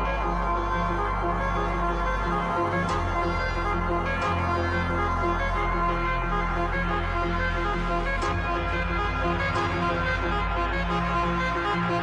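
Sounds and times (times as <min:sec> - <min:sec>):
drum and bass music: 0:00.0 - 0:12.0
sustained sub-bass: 0:00.0 - 0:12.0.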